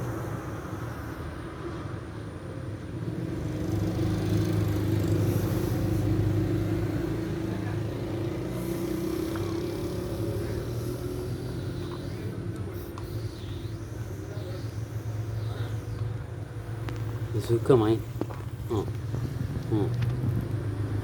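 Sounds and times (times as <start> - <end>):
motor engine running: 3.2 - 21.0.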